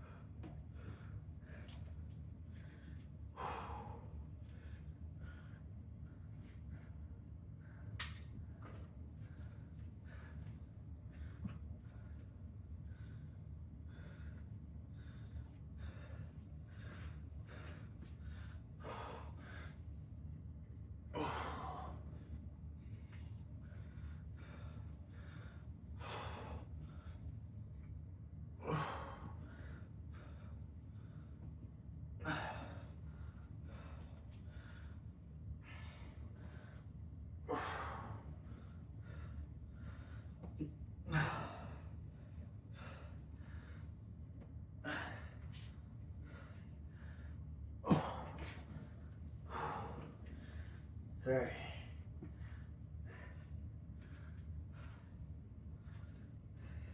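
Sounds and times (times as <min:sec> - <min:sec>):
man breathing hard: 0:00.0 - 0:20.2, 0:21.1 - 0:27.4, 0:28.6 - 0:31.6, 0:32.2 - 0:56.9
steady low hum: 0:00.0 - 0:56.9.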